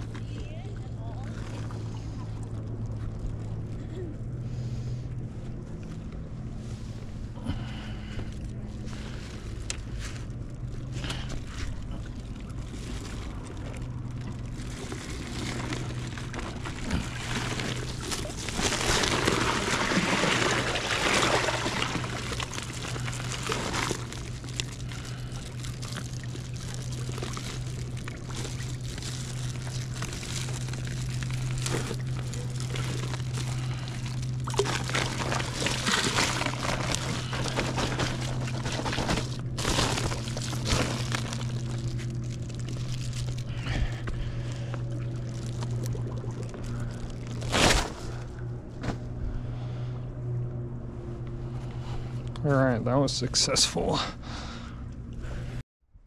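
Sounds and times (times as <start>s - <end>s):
seawater sloshing among rocks: 0.0s - 3.7s, 4.5s - 49.2s
steady low hum: 0.0s - 56.0s.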